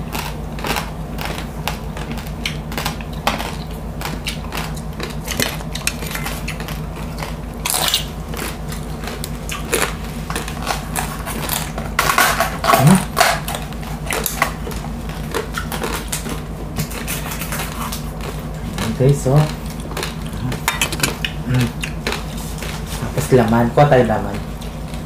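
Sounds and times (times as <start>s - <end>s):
crispy skin crackling and crunching: 0.0s - 25.0s.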